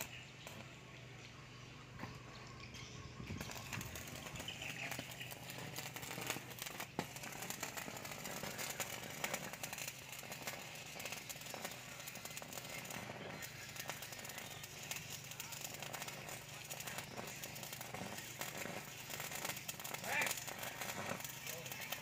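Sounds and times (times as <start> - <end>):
welding arc crackling: 0.0 - 0.9, 2.0 - 22.0.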